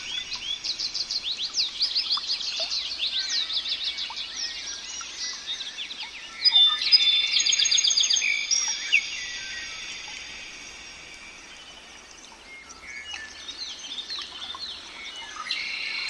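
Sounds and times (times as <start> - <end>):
small birds chirping: 0.0 - 16.0
whistled bird notes and trills: 0.0 - 16.0.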